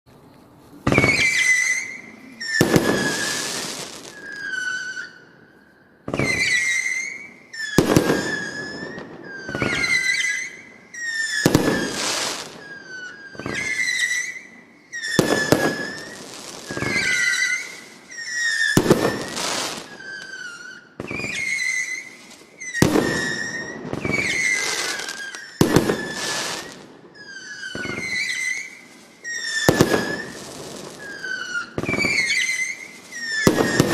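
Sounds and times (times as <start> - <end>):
firework whistle and crackle: 0.8 - 33.9
firework bangs: 0.9 - 5.1, 6.0 - 33.9.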